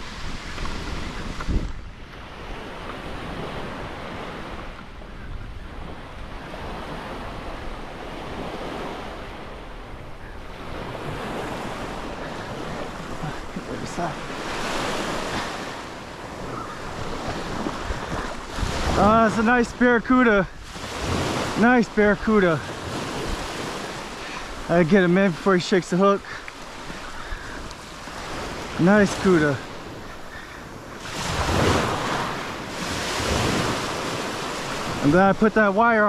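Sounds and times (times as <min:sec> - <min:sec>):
small waves on sandy beach: 0:00.0 - 0:36.0
wind buffeting microphone: 0:00.0 - 0:36.0.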